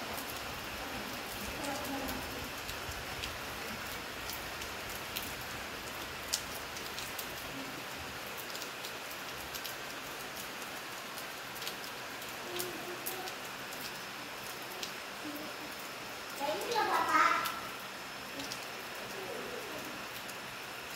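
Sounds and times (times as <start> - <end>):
raindrops ticking on surfaces: 0.0 - 20.9
steady rain hiss: 0.0 - 20.9.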